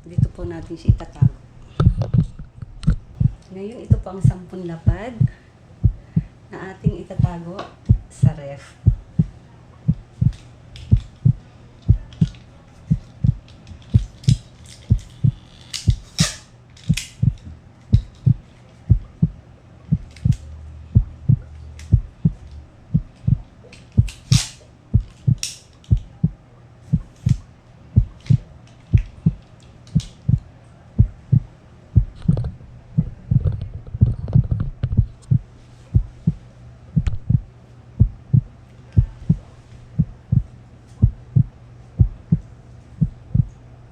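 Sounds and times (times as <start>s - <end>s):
heartbeat-like thumping beat: 0.0s - 12.3s, 12.9s - 14.2s, 14.9s - 16.2s, 16.9s - 27.4s, 28.0s - 29.4s, 30.0s - 43.6s
low hum: 0.0s - 43.9s.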